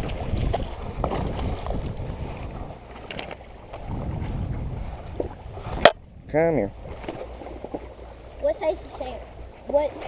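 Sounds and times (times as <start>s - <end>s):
wind buffeting microphone: 0.0s - 8.5s.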